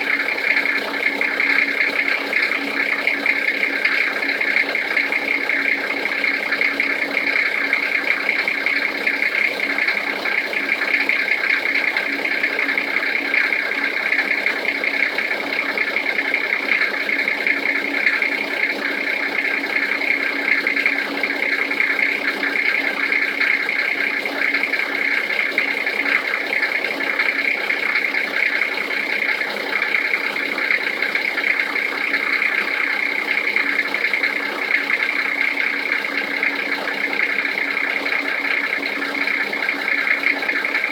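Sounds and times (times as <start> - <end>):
engine knock: 0.0 - 40.9.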